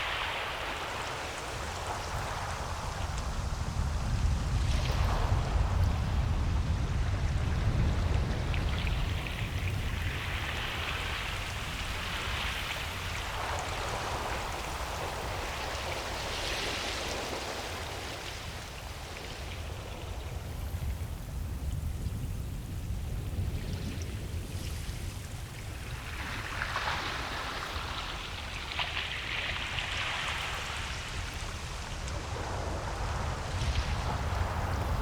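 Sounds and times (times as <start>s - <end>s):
ocean surf washing onto beach: 0.0s - 35.0s.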